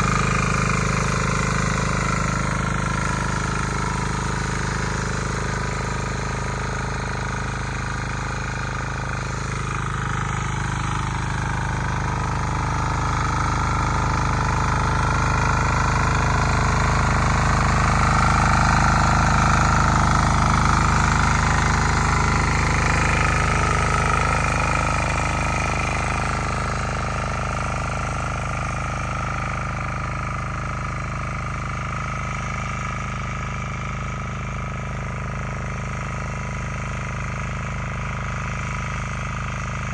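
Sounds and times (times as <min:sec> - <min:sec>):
diesel tiller running: 0:00.0 - 0:39.9.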